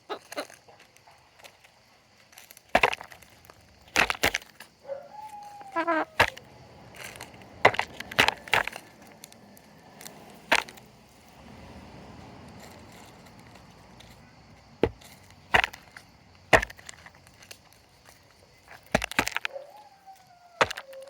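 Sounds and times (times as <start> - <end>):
chickens pecking at food: 0.1 - 19.9.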